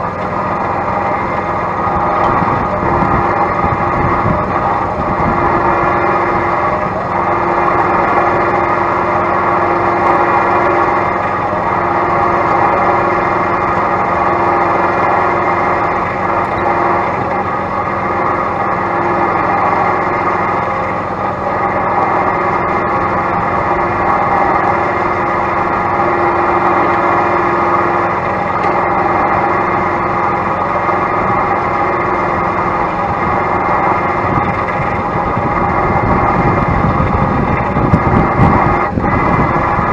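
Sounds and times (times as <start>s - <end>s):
engine running loudly: 0.0s - 39.9s.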